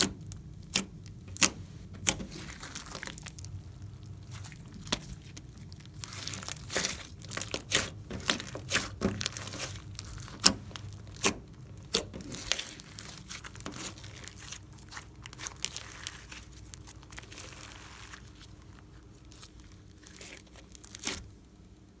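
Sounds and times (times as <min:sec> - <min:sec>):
slime squished by hand: 0:00.0 - 0:21.3.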